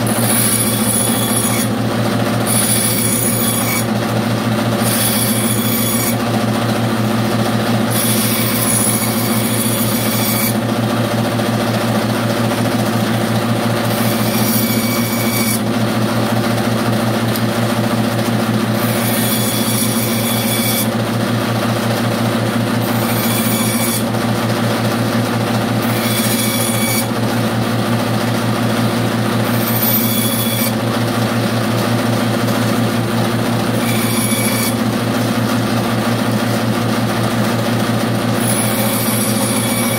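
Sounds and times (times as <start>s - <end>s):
bandsaw motor hum: 0.0s - 39.9s
saw blade cutting wood: 0.0s - 39.9s.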